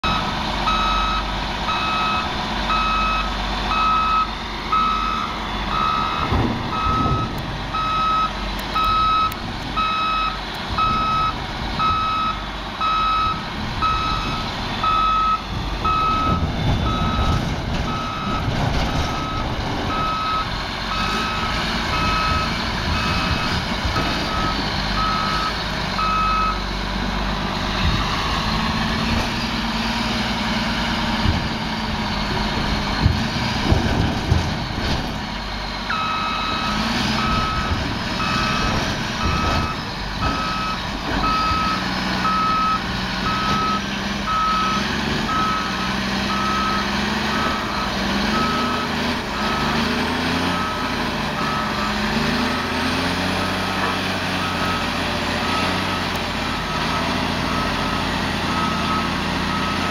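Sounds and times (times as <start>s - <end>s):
reversing alarm beeping: 0.0s - 26.7s, 35.4s - 59.9s
diesel engine rumble: 0.0s - 59.9s.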